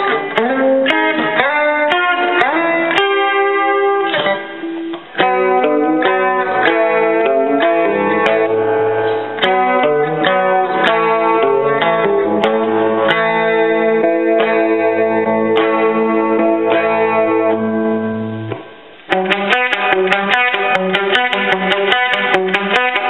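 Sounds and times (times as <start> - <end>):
clean electric guitar: 0.0 - 23.0.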